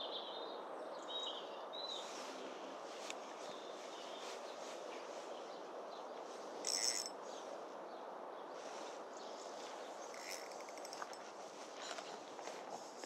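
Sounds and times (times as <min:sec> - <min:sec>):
steady outdoor background noise: 0:00.0 - 0:13.0.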